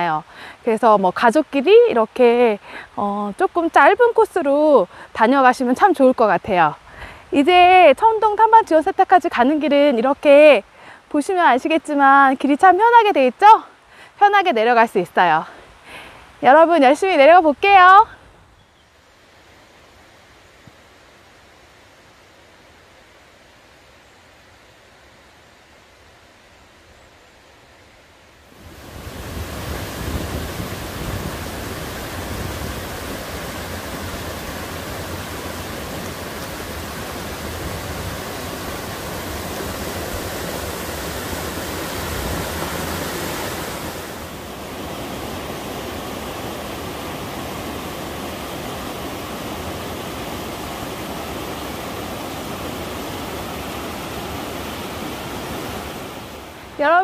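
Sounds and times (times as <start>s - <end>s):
stream water rushing: 0.0s - 18.2s, 19.0s - 57.0s.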